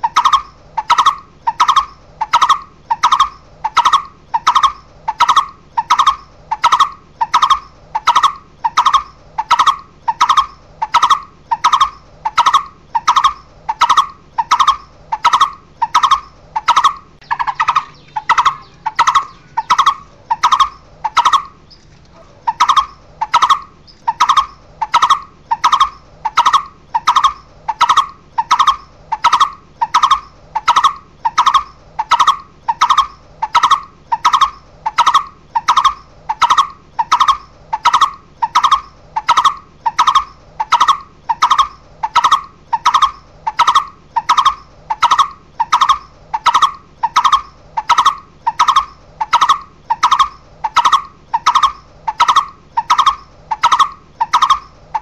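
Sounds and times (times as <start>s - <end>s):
bird repeated call notes: 0.0s - 55.0s.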